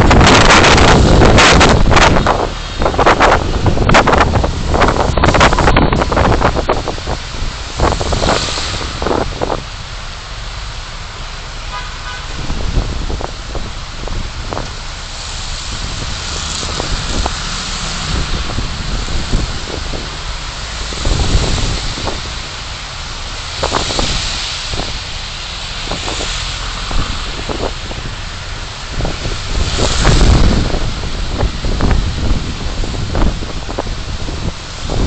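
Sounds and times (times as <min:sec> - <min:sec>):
road and wind noise: 0:00.0 - 0:35.0.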